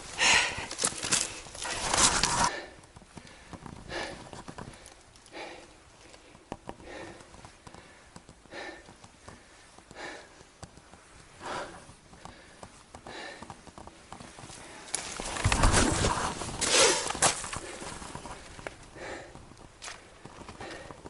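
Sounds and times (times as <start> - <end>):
person breathing hard: 0.0 - 13.7, 16.6 - 19.5, 20.4 - 21.0.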